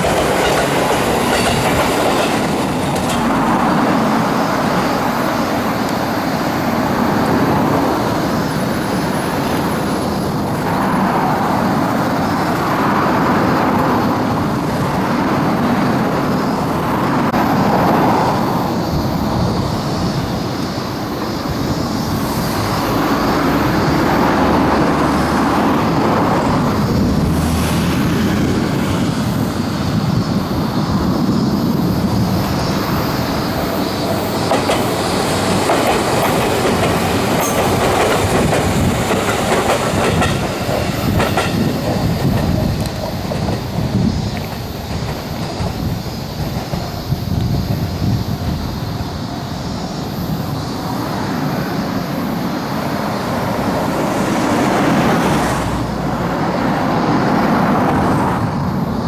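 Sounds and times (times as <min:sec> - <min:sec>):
train wheels clacking over rail joints: 0:00.0 - 0:58.7.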